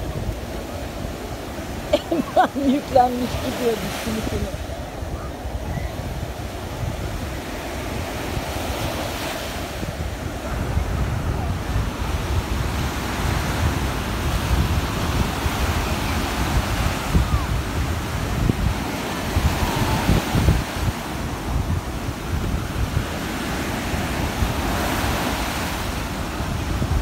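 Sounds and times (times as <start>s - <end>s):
surf breaking on beach: 0.0s - 27.0s
wind gusting on microphone: 0.0s - 27.0s.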